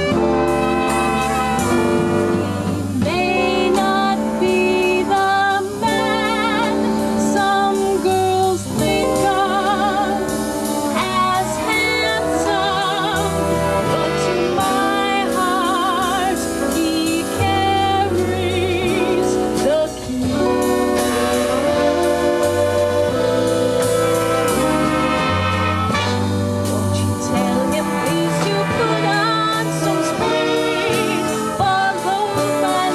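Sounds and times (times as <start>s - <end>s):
swing band music: 0.0s - 32.9s
woman singing: 2.6s - 25.3s, 26.6s - 32.9s.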